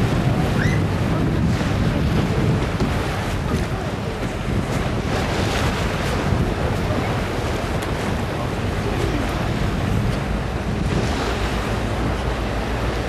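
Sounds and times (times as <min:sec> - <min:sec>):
water rushing around a boat: 0:00.0 - 0:13.0
wind buffeting microphone: 0:00.0 - 0:13.0.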